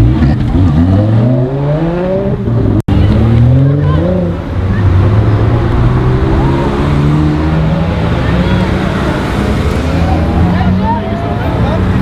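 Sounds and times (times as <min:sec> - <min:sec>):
sports car engine revving: 0:00.0 - 0:12.0.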